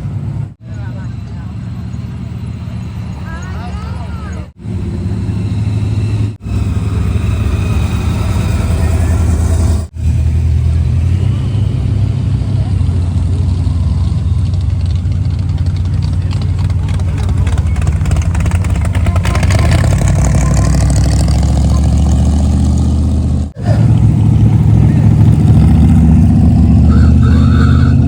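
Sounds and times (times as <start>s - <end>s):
car engines rumbling: 0.0s - 28.0s.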